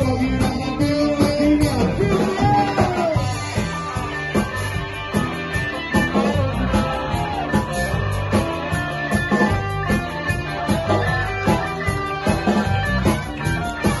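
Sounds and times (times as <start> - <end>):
drum kit: 0.0 - 14.0
electric guitar chords: 0.0 - 14.0.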